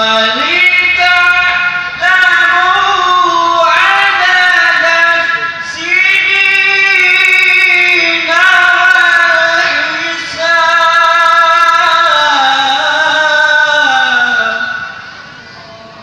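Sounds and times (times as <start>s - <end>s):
young man chanting into microphone: 0.0s - 16.0s.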